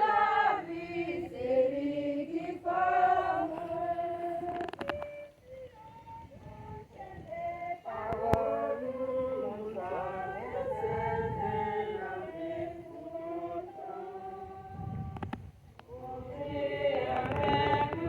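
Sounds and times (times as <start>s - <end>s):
group of voices singing: 0.0s - 18.0s.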